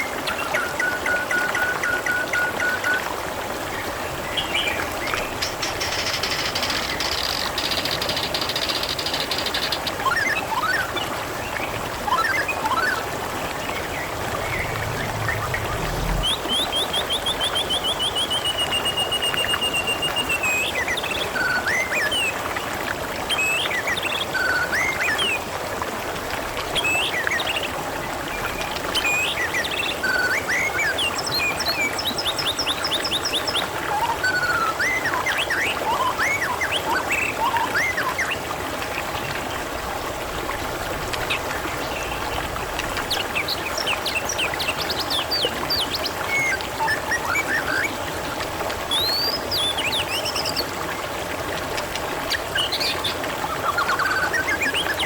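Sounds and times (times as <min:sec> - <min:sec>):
water trickling and gurgling: 0:00.0 - 0:55.0.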